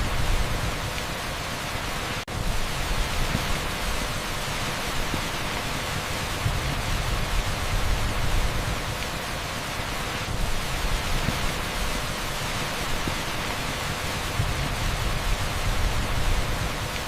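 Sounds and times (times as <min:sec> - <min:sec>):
heavy rain on asphalt: 0:00.0 - 0:17.0.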